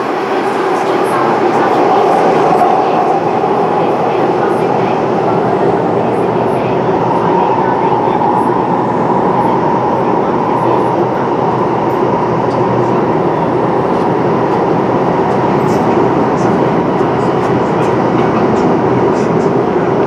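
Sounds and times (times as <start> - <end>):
train rumble inside car: 0.0 - 20.0.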